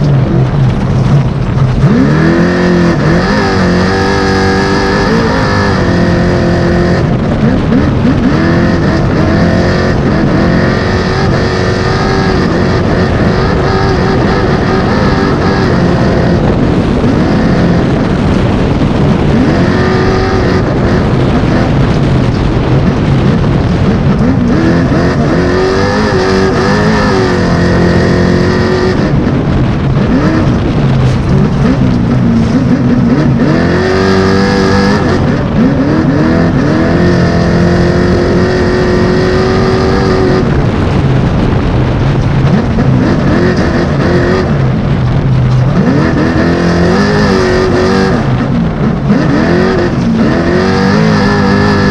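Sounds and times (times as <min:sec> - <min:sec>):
truck engine racing: 0:00.0 - 0:51.9.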